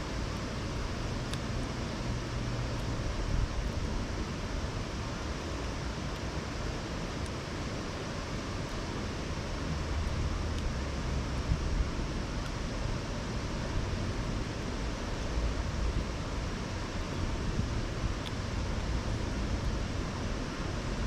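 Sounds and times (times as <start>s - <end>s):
campfire burning: 0.0s - 21.0s.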